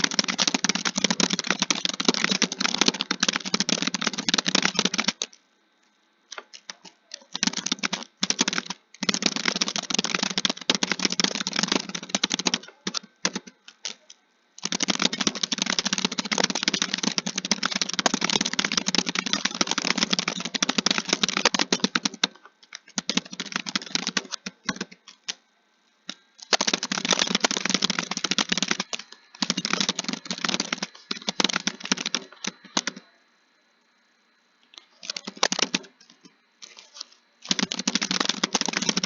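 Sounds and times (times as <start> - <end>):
fast typing on a keyboard: 0.0 - 5.4, 6.3 - 25.4, 26.1 - 33.1, 35.0 - 35.9, 36.6 - 39.0.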